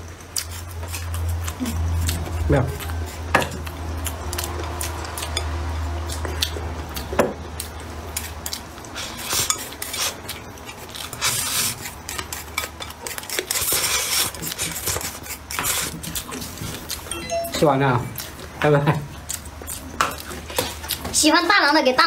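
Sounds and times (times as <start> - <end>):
slurping and eating noises: 0.0 - 21.2.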